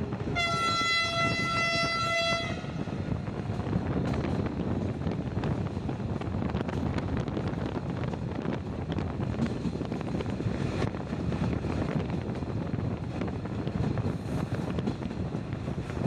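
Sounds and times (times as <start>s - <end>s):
train wheels rumbling on rails: 0.0s - 16.0s
wind on microphone: 0.0s - 16.0s.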